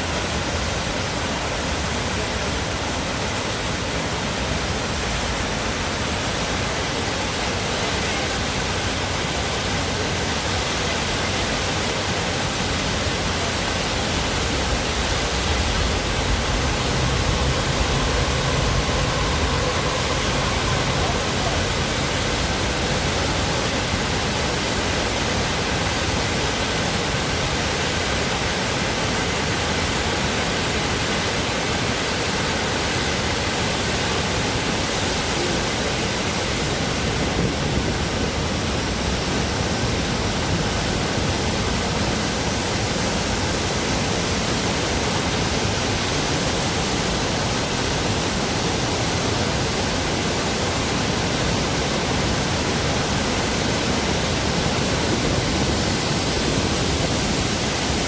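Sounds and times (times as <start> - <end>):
waterfall splashing: 0.0 - 58.0.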